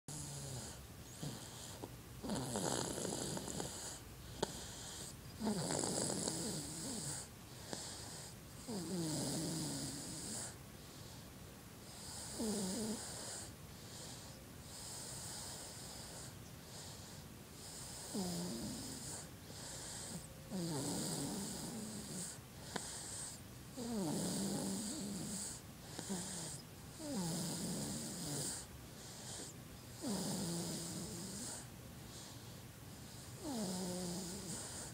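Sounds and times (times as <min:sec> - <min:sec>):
baby snoring: 0:00.1 - 0:10.6, 0:11.8 - 0:34.9.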